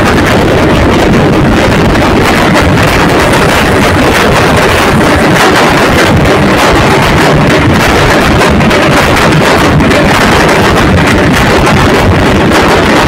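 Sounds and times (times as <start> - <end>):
loud distorted drumming: 0.0 - 13.0.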